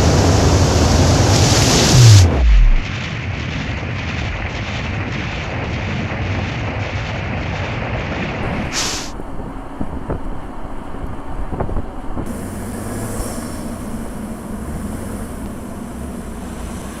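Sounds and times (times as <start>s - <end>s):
vehicle driving rumble: 0.0s - 4.8s, 7.8s - 17.0s
wind noise: 0.0s - 17.0s.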